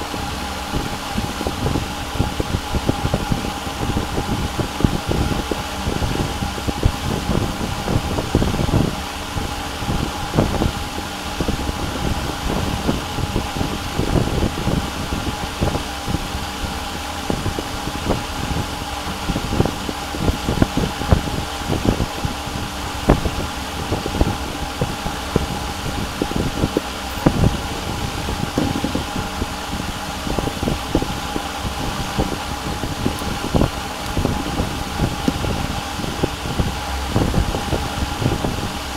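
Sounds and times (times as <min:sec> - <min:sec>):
fan-like mechanical whir: 0:00.0 - 0:38.9
high hum: 0:00.0 - 0:38.9.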